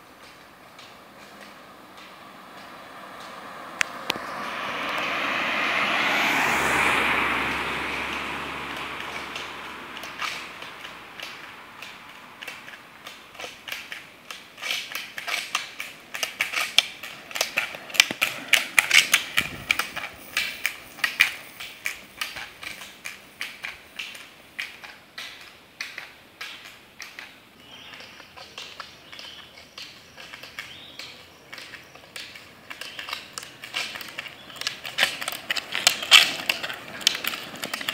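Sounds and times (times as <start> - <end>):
ski pole tips clicking on asphalt: 0.0 - 6.7, 7.4 - 37.9
wheels rumbling by: 0.2 - 14.0, 14.6 - 24.9, 29.8 - 37.9.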